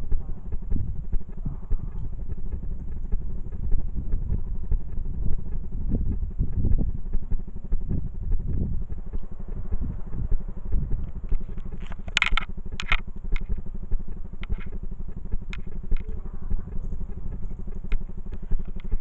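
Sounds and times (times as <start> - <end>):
crackles and clicks: 0.0 - 19.0
low rumbling background noise: 0.0 - 19.0
sharp ticks: 0.0 - 19.0.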